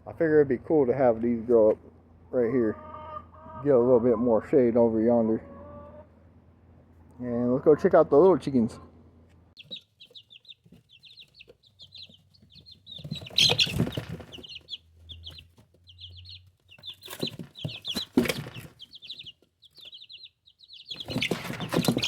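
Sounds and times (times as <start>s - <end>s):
chicks peeping and chirping: 2.4s - 22.0s.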